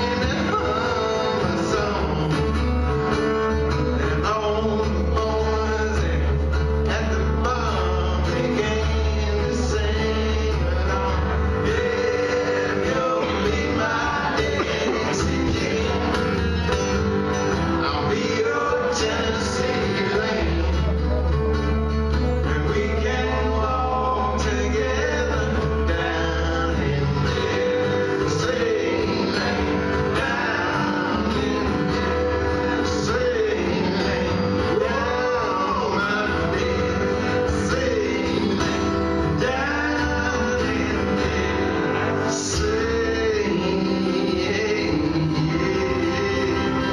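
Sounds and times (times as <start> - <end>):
acoustic guitars strummed: 0.0 - 46.9
man singing: 0.0 - 46.9.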